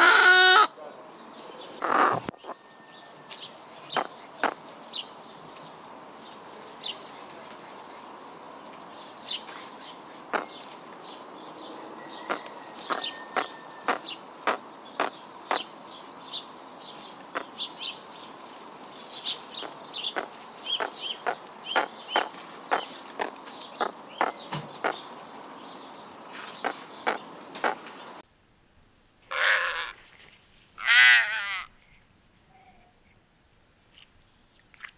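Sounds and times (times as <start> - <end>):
steady background hiss: 0.7 - 34.8.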